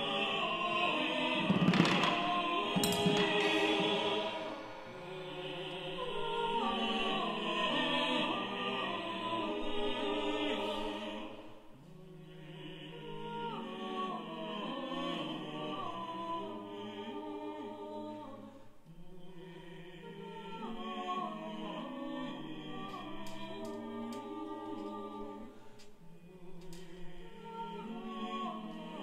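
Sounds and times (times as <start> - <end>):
vocal quartet singing: 0.0 - 29.0.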